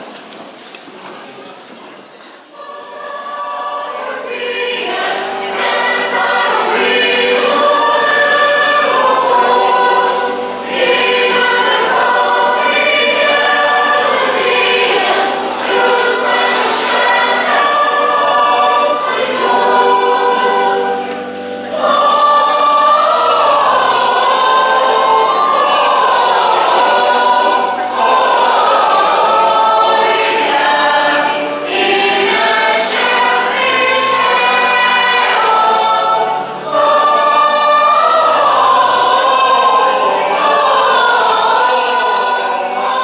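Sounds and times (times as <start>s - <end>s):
church choir singing: 2.0s - 43.0s.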